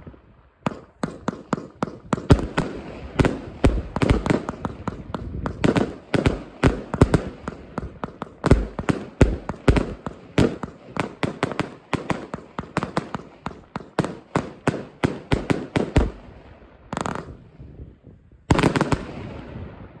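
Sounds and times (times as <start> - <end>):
fireworks shots and bangs: 0.0 - 17.5, 18.5 - 20.0.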